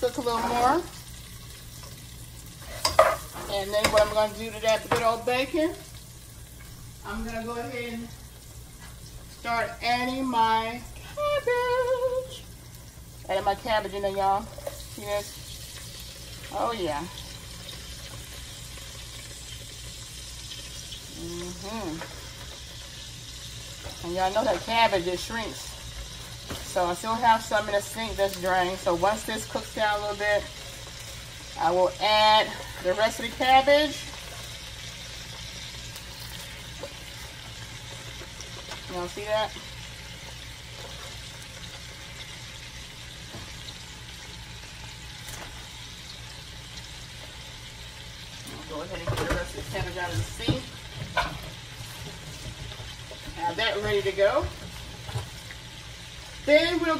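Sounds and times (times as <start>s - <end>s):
cabbage sizzling in grease: 0.0s - 56.9s.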